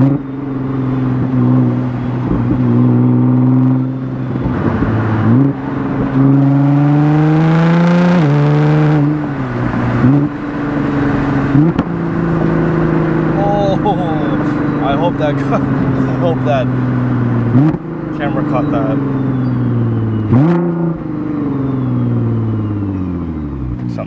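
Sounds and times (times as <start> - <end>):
car engine accelerating through gears: 0.0 - 24.0.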